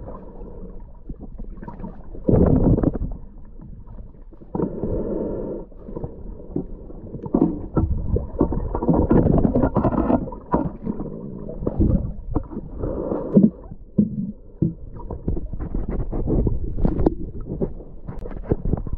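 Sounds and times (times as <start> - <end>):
underwater rumbling and gurgling: 0.0 - 18.9.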